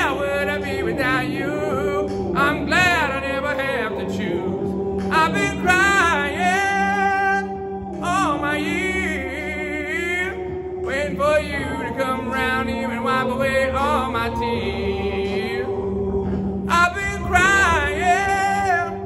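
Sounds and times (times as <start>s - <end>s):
man singing a cappella: 0.0s - 15.8s, 16.7s - 19.0s.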